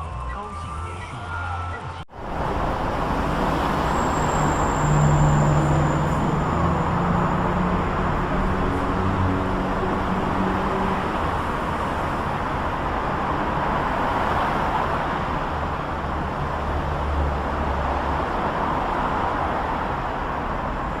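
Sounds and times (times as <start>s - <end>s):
passing vehicles hissing: 2.1s - 21.0s.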